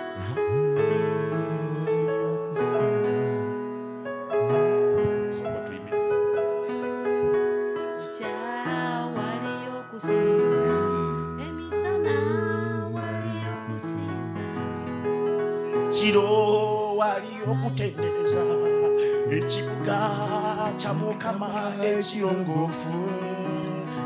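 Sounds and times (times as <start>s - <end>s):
person singing: 0.0s - 3.8s, 4.4s - 24.0s
electric keyboard chords: 0.0s - 24.0s.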